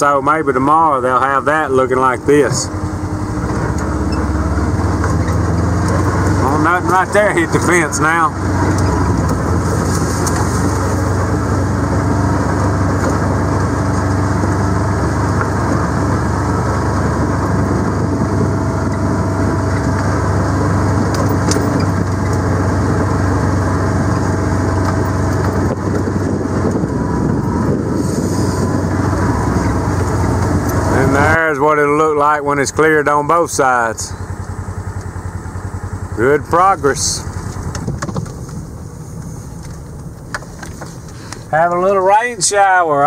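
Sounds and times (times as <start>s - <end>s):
vehicle engine running at low speed: 0.0s - 43.0s.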